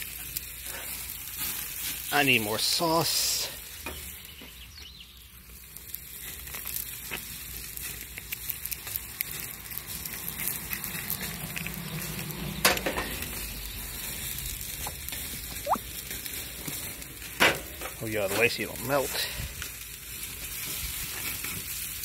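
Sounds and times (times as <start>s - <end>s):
meat sizzling on a grill: 0.0s - 22.0s.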